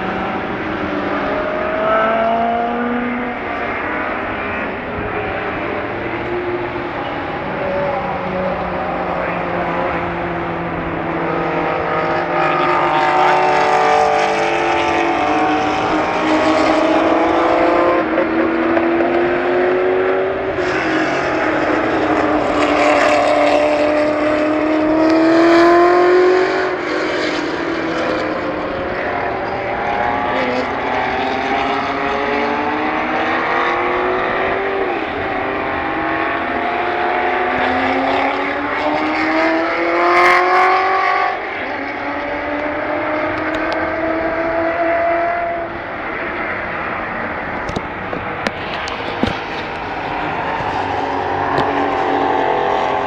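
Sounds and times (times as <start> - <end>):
racing car engine at full throttle: 0.0 - 53.0.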